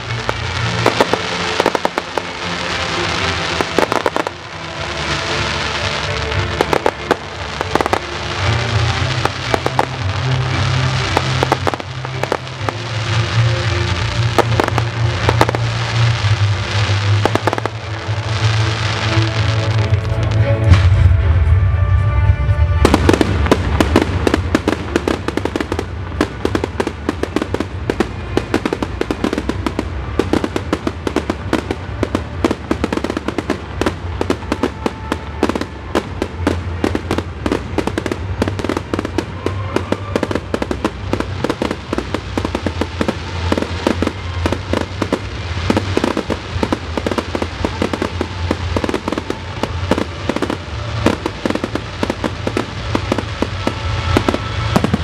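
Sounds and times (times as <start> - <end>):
fireworks bangs and crackles: 0.0 - 22.0, 22.7 - 55.0.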